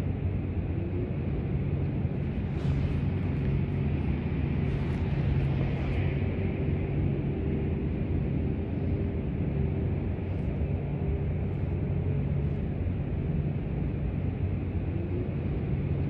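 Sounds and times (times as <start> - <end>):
faint constant hum: 0.0 - 16.0
low rumble: 0.0 - 16.0.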